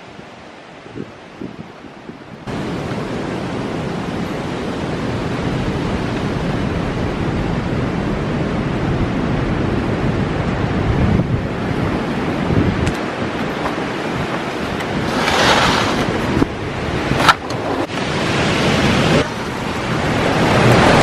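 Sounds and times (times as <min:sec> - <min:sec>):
storm wind rushing: 0:00.8 - 0:21.0
wind buffeting microphone: 0:00.8 - 0:21.0.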